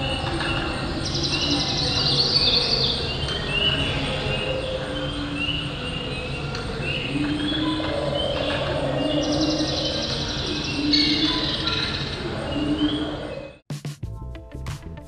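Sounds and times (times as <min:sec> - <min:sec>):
bird chirps: 0:00.0 - 0:13.6.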